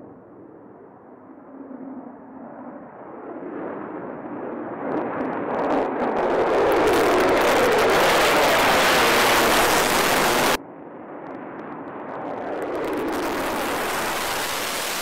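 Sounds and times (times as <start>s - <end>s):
jet roar: 0.0s - 15.0s.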